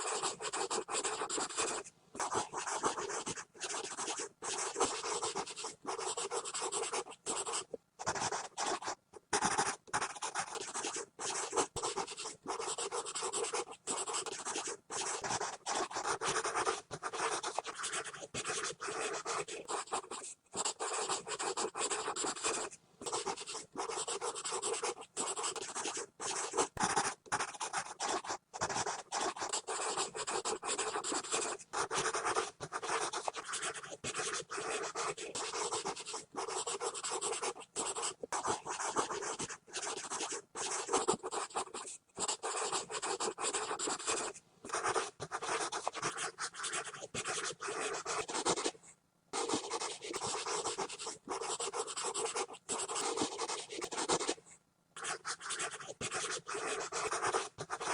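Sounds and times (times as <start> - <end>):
pencil scribbling on paper: 0.0 - 48.8, 49.4 - 54.4, 55.0 - 57.9.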